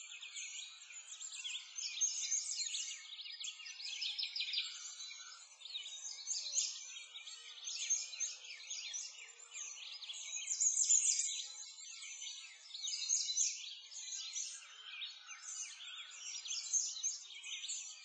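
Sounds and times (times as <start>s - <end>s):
small birds chirping and singing: 0.0s - 18.0s.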